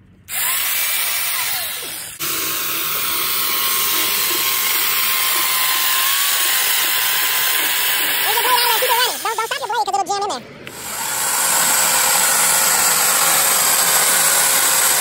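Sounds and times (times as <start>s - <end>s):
chainsaw cutting wood: 0.3s - 9.2s, 10.7s - 15.0s
electric chainsaw running: 0.3s - 9.6s, 10.7s - 15.0s.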